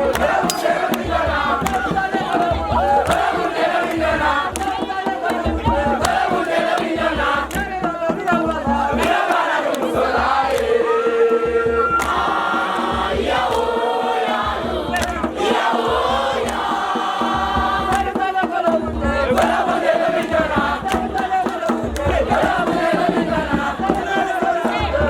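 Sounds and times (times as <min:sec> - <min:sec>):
young voices singing in chorus: 0:00.0 - 0:25.0.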